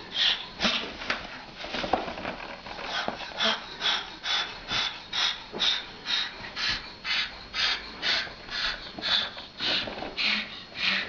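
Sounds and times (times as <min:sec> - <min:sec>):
cockatoo hissing: 0:00.0 - 0:01.0, 0:02.9 - 0:11.0.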